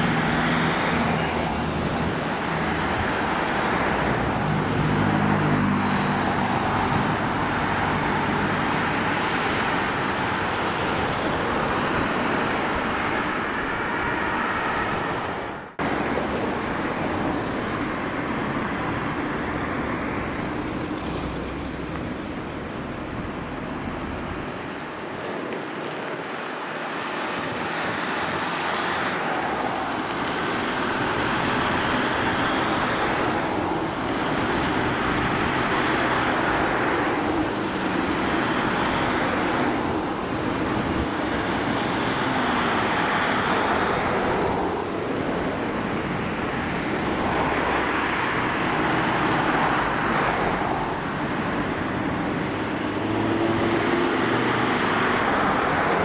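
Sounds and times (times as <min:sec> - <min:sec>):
vehicles driving past: 0:00.0 - 0:56.0.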